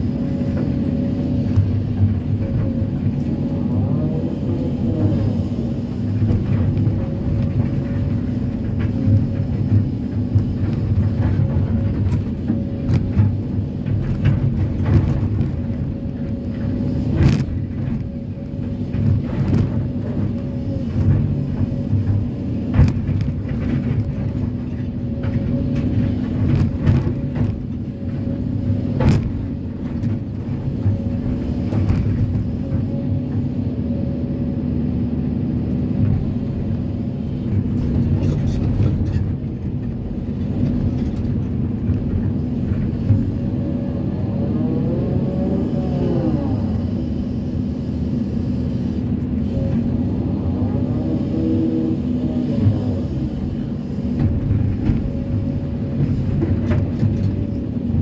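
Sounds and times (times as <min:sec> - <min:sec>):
excavator diesel engine running: 0:00.0 - 0:58.0
hydraulic hum: 0:00.0 - 0:58.0.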